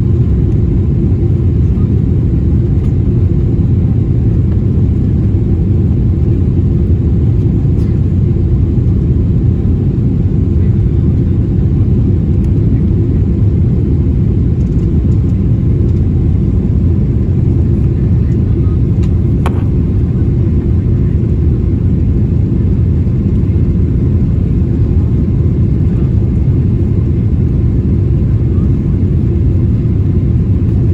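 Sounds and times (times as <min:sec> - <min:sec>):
jet engine rumble inside cabin: 0:00.0 - 0:30.9.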